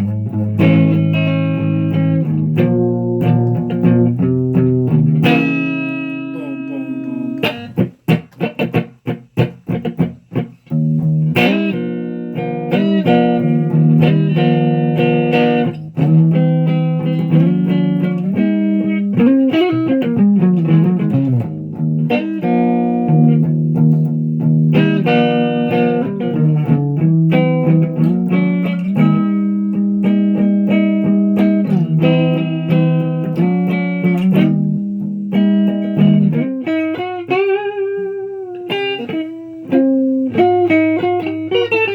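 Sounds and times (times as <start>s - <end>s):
electric guitar: 0.0s - 41.9s.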